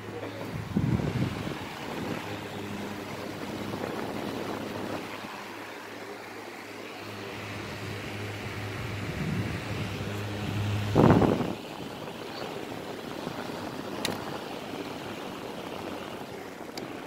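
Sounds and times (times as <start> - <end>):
fan air rushing: 0.0 - 17.0
fan motor hum: 0.0 - 17.0.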